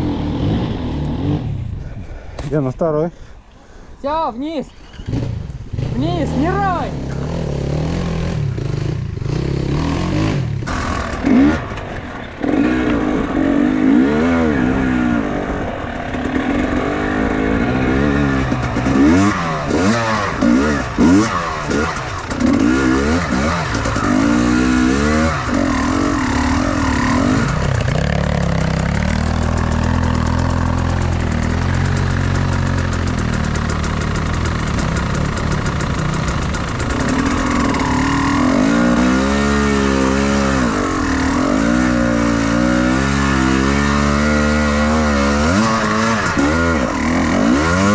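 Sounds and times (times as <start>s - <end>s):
motorcycle engine revving: 0.0s - 1.9s, 4.7s - 47.9s.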